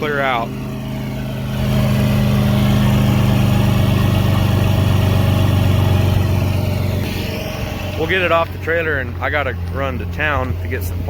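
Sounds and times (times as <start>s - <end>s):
loud low exhaust drone: 0.0s - 11.0s.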